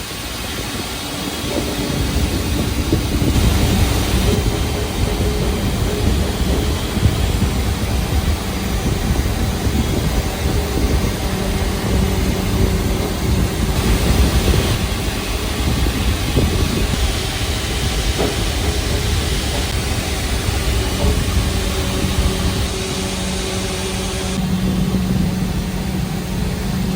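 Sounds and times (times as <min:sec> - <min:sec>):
jet turbine roar: 0:00.0 - 0:26.9.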